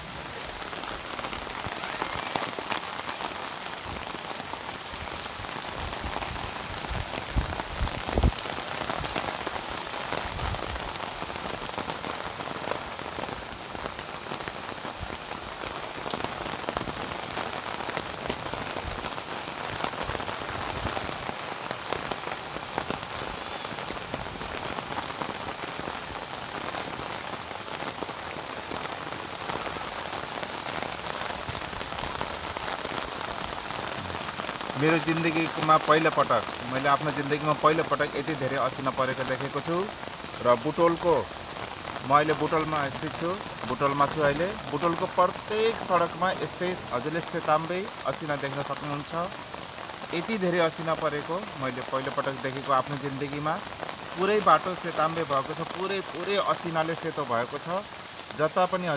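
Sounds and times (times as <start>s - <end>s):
rain pattering: 0.0s - 58.9s.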